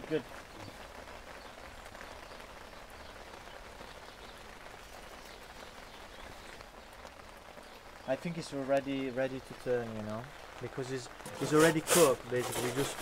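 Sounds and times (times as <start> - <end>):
soft steady rain: 0.0 - 13.0.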